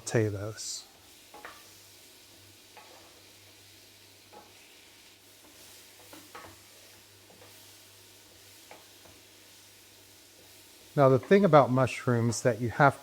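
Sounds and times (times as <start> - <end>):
mushrooms sizzling in a pan: 0.0 - 13.0.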